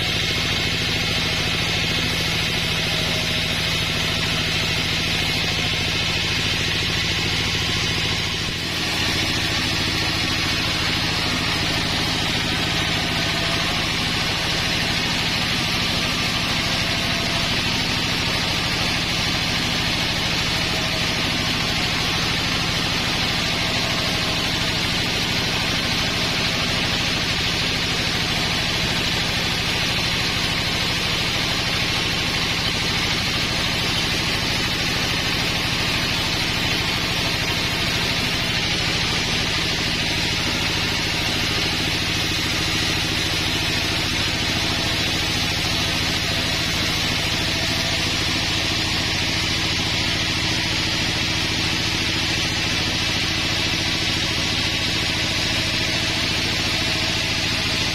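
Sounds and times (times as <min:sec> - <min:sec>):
sawmill engine hum: 0:00.0 - 0:57.9.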